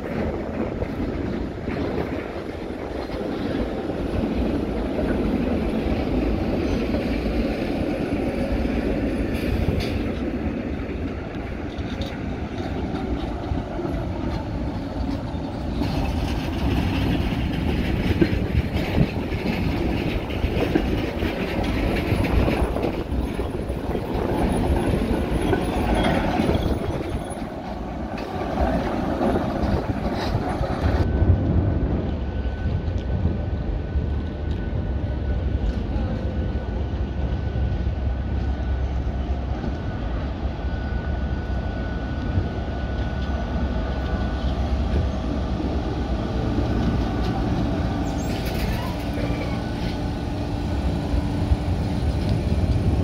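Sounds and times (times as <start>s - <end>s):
tram rumbling past on rails: 0.0s - 53.0s.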